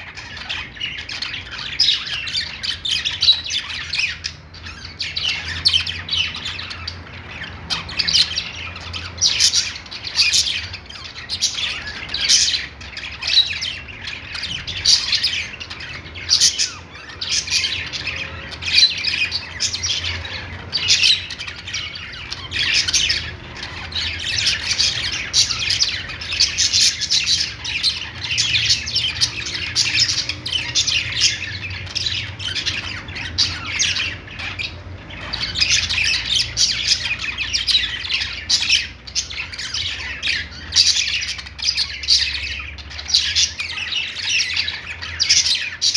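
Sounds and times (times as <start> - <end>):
budgies chattering: 0.0 - 45.9.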